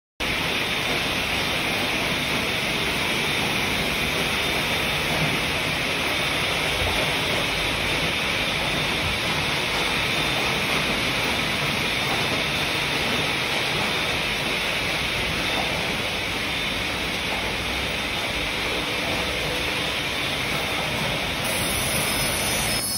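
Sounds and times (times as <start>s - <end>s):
band sawmill running: 0.2s - 22.9s.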